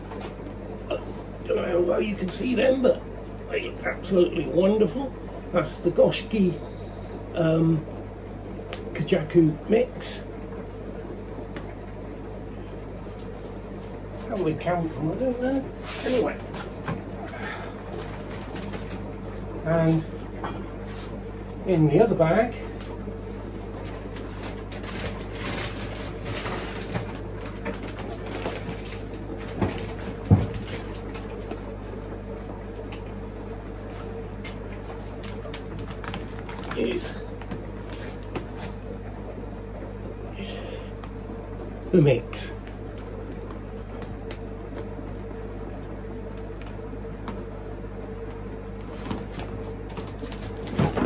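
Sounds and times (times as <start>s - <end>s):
low hum of pond equipment: 0.0s - 51.0s.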